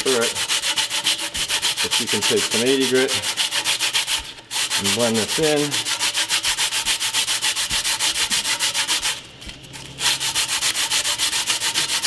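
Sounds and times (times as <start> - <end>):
sandpaper rubbing back and forth: 0.0 - 9.2, 10.0 - 12.0.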